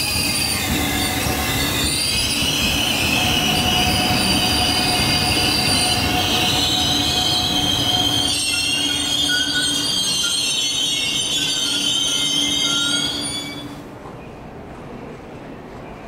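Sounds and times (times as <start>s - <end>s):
high-pitched wheel squeal: 0.0s - 13.8s
train cars rumbling: 0.0s - 15.6s.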